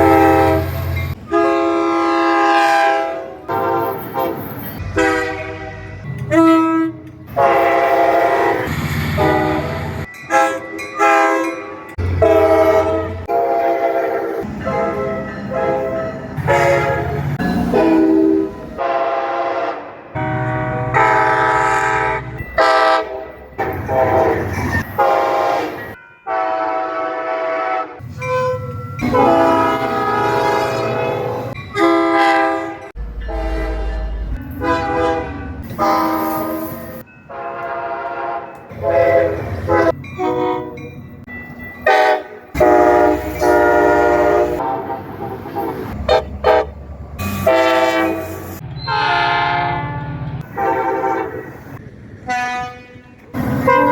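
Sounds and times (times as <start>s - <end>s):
locomotive air horns: 0.0s - 40.8s, 41.8s - 53.9s.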